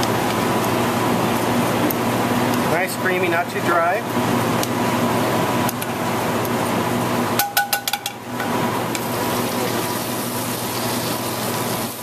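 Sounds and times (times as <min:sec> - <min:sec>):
kitchen hum and hiss: 0:00.0 - 0:12.0.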